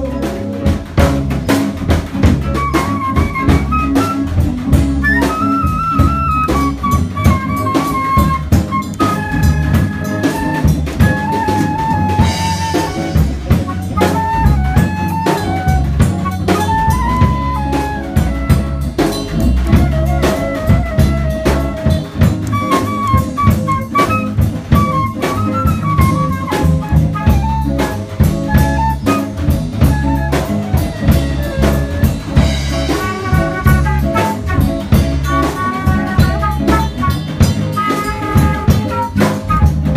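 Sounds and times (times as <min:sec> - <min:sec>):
flute melody: 0:00.0 - 0:39.9
swing jazz band playing: 0:00.0 - 0:39.9.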